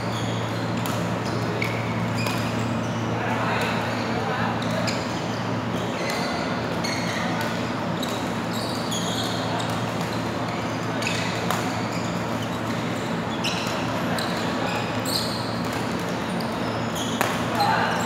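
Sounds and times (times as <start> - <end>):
low hall hum: 0.0 - 18.0
shoes squeaking on court floor: 0.0 - 18.0.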